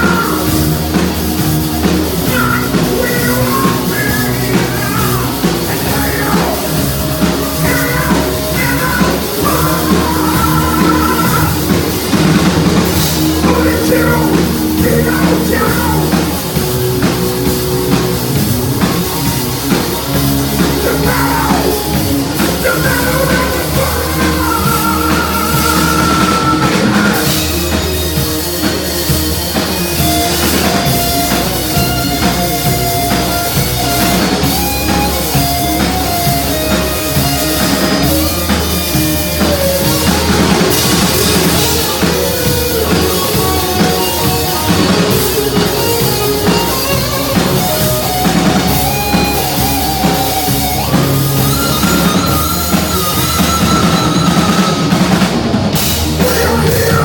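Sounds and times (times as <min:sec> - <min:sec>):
bass guitar: 0:00.0 - 0:57.0
distorted rhythm guitar: 0:00.0 - 0:57.0
lead guitar long melodic notes: 0:00.0 - 0:57.0
pounding drum kit: 0:00.0 - 0:57.0.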